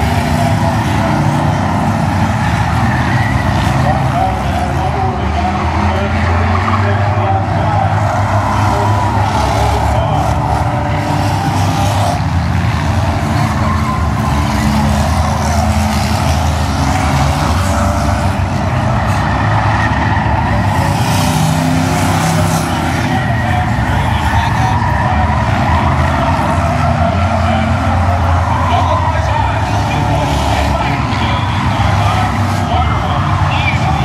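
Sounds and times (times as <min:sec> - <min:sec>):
race car engines passing: 0:00.0 - 0:34.0.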